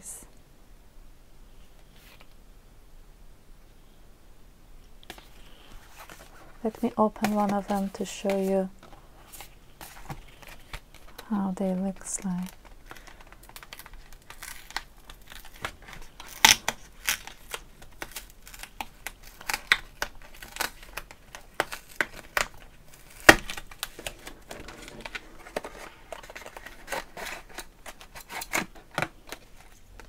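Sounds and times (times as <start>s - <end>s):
packaging crinkling and rustling: 5.0s - 30.0s.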